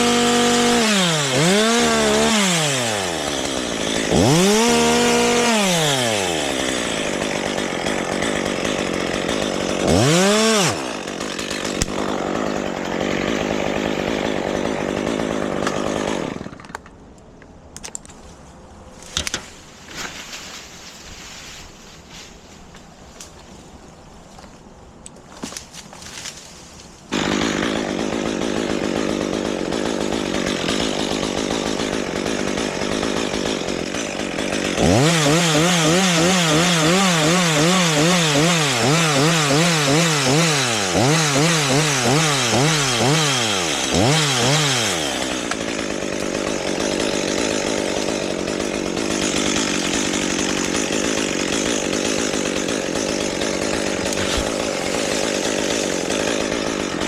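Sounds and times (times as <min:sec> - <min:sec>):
chainsaw running: 0:00.0 - 0:16.8, 0:27.1 - 0:57.0.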